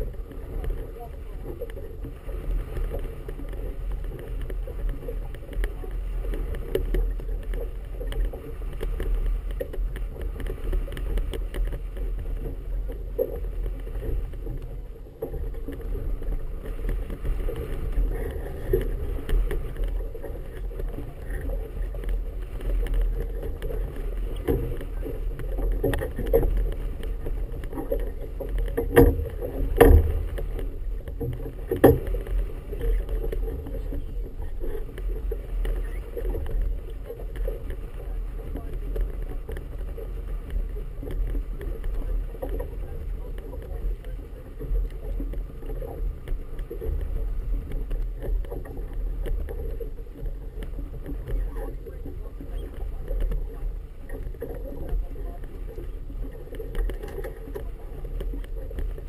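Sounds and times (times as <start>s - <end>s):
low rumble of wind: 0.0s - 59.0s
water slapping against boat hull: 0.0s - 59.0s.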